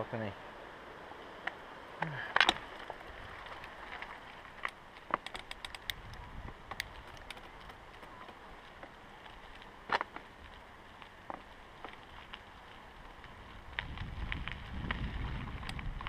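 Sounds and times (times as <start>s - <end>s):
bike tyres on gritty dirt: 0.0s - 16.0s
bike clicks and rattles: 1.4s - 16.0s.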